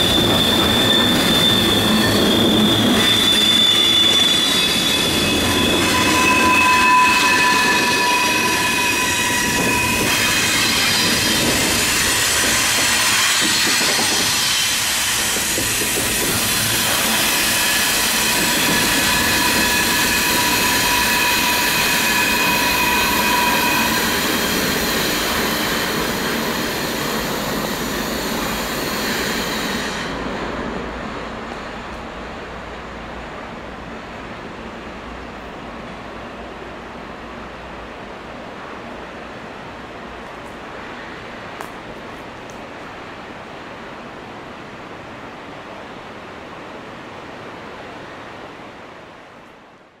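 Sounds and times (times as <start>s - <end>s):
train wheels on rail: 0.0s - 49.5s.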